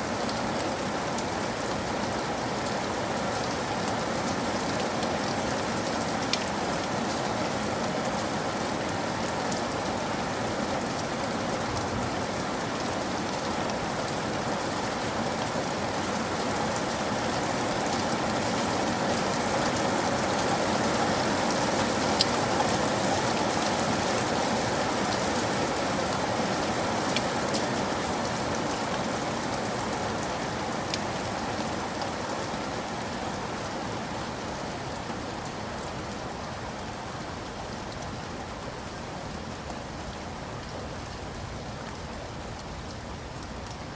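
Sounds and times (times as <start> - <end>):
heavy rain pattering: 0.0 - 43.9.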